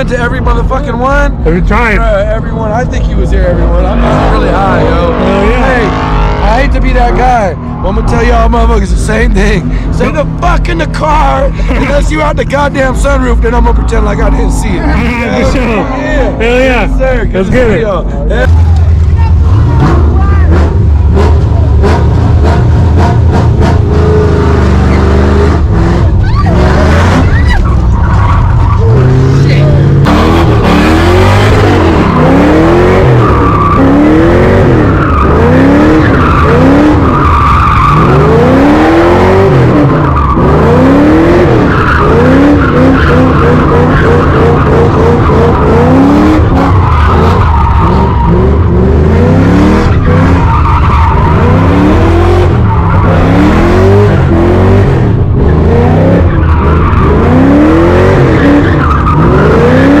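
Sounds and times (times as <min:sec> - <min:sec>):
car engine revving: 0:00.0 - 1:00.0
tires screeching: 0:00.0 - 1:00.0.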